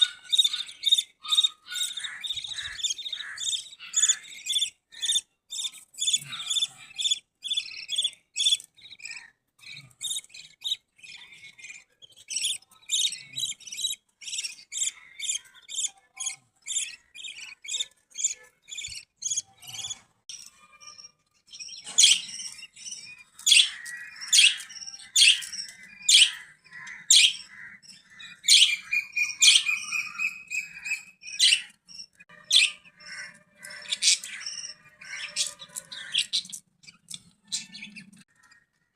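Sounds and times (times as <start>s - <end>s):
budgerigars chirping: 0.0s - 38.2s.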